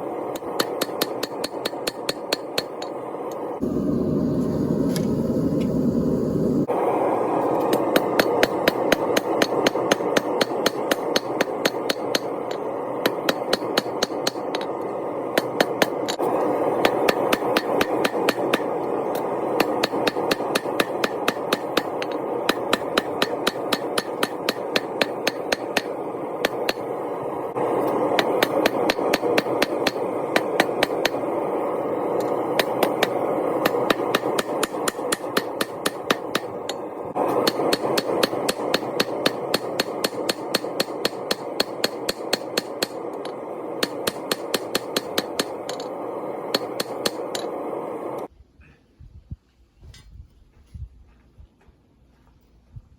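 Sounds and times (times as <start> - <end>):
steady rushing noise: 0.0 - 48.3
hammer striking hot steel: 0.2 - 6.6, 7.4 - 48.3.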